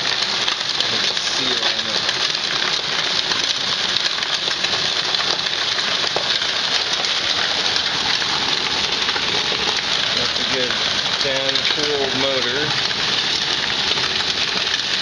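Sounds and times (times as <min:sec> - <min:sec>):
ball mill tumbling clatter: 0:00.0 - 0:15.0.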